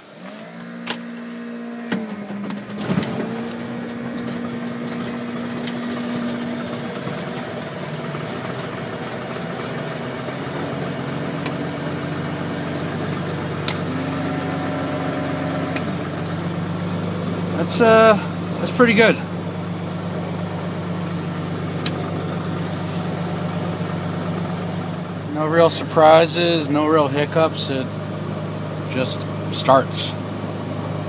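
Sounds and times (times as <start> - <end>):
steady whine: 0.0 - 31.0
aircraft engine idling: 1.8 - 31.0
engine starter cranking: 1.9 - 31.0.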